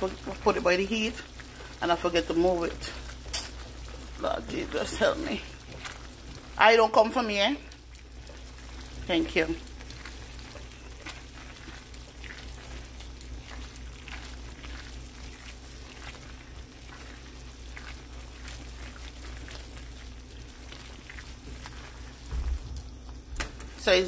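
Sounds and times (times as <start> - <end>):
sauce sizzling in a frying pan: 0.0 - 24.0
tongs stirring pasta: 0.0 - 24.0.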